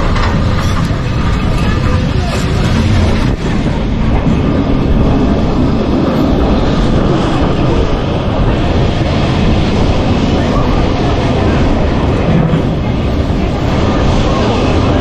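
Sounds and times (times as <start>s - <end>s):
tram wheels rumbling: 0.0s - 15.0s.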